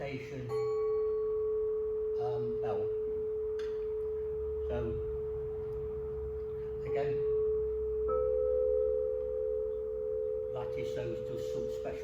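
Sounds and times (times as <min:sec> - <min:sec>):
higher tuned tube ringing: 0:00.0 - 0:12.0
tuned metal tube ringing: 0:00.0 - 0:12.0.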